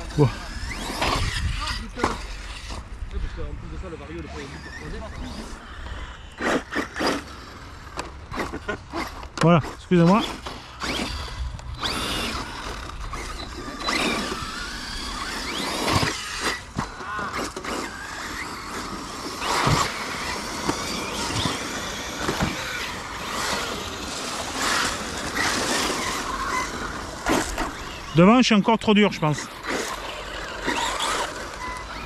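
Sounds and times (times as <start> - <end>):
electric motors whining: 0.0 - 32.0.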